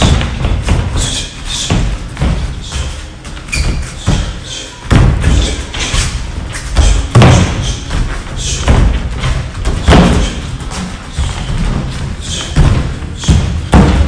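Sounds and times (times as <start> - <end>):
heavy thuds: 0.0 - 14.0.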